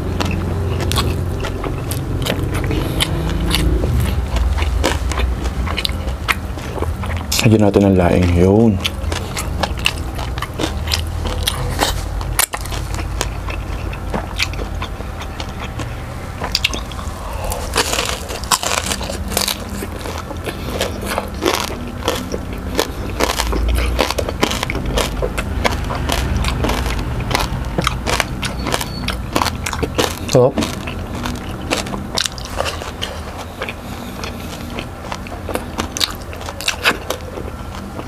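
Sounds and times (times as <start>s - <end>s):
crunching and chewing pork: 0.0s - 38.0s
low hum: 0.0s - 38.0s.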